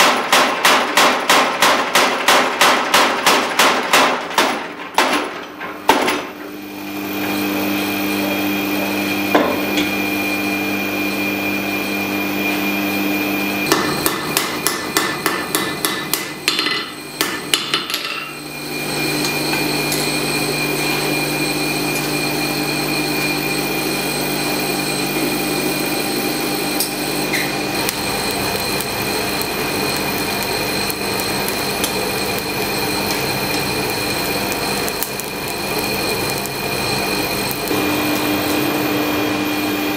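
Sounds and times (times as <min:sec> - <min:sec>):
forge air blast whine: 0:00.0 - 0:39.9
machine hum: 0:04.3 - 0:39.9.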